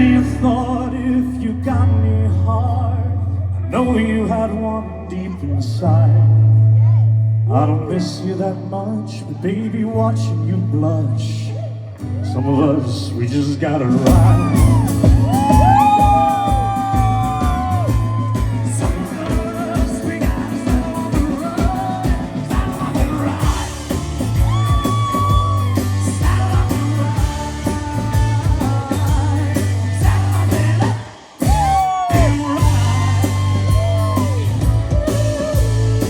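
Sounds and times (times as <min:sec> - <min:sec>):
live country-rock band: 0:00.0 - 0:36.0.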